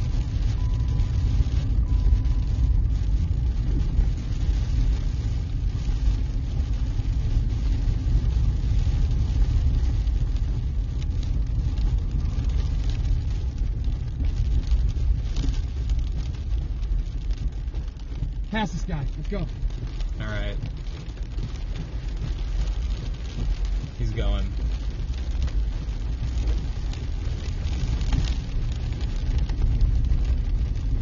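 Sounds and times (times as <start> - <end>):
vehicle road rumble: 0.0 - 31.0.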